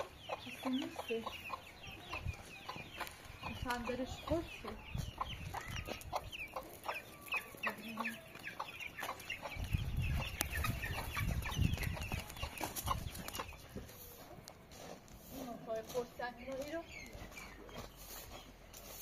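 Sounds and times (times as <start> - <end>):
fowl chirping and clucking: 0.0 - 19.0.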